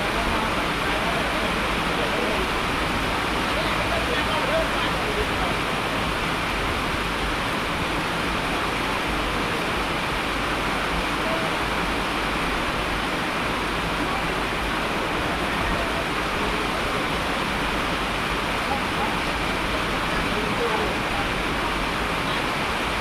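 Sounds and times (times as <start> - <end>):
falling water rushing: 0.0 - 23.0.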